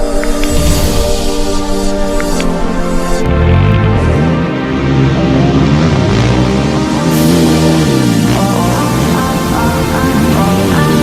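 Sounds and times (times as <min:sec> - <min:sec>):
loud electronic music: 0:00.0 - 0:11.0.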